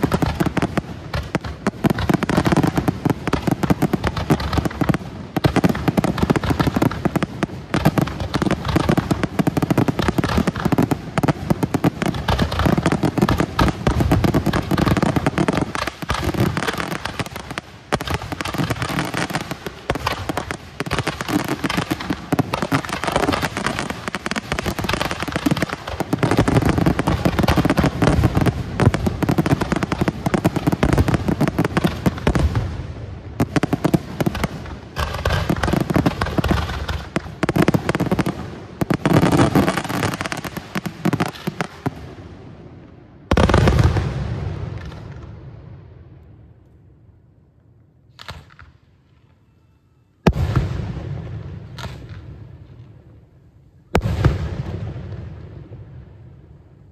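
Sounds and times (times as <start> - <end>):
fireworks bangs and crackle: 0.0 - 46.4, 48.1 - 48.9, 50.2 - 56.9.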